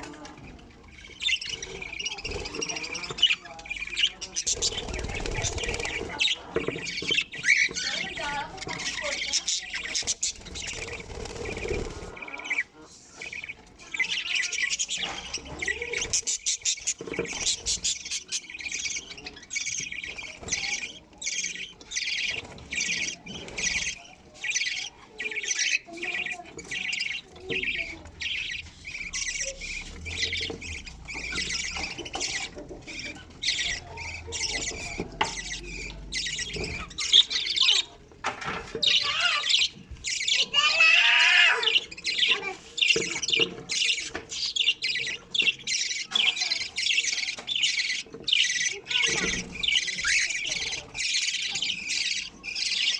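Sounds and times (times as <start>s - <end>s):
budgerigars cheeping: 0.8s - 52.9s.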